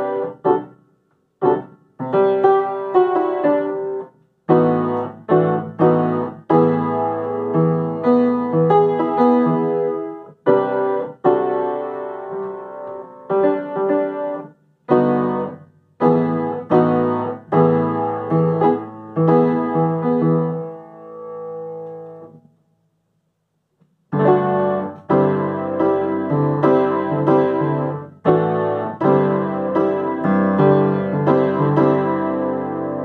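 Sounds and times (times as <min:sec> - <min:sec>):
upright piano chords: 0:00.0 - 0:22.5, 0:24.1 - 0:33.0.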